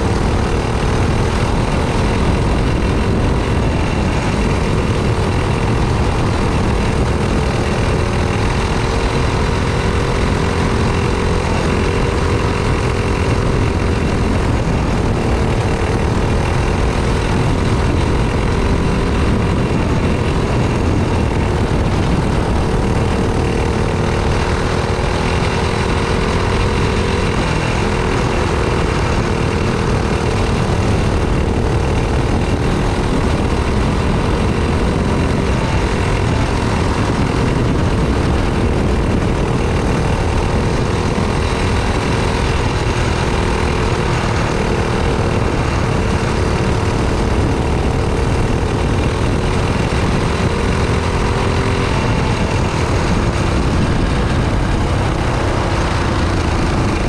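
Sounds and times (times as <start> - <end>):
go-kart engine running hard: 0.0 - 57.0
wind and track noise: 0.0 - 57.0.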